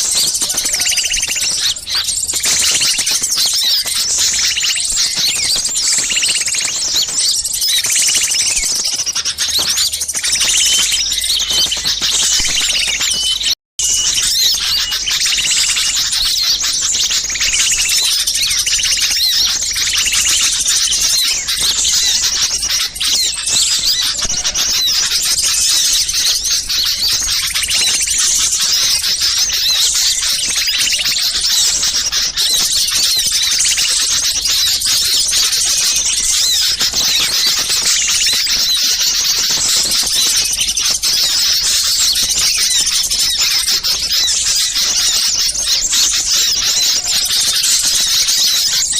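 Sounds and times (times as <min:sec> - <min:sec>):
small songbirds chirping: 0:00.0 - 0:48.9.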